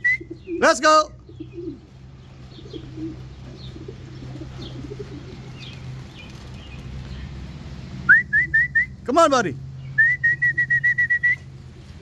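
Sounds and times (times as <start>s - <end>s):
pigeons cooing: 0.0s - 9.0s, 9.6s - 12.0s
small birds chirping: 0.0s - 12.0s.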